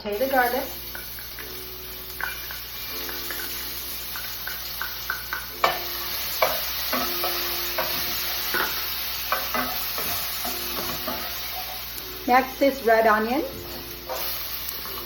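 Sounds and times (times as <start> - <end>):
garlic sizzling in oil: 0.0 - 15.0.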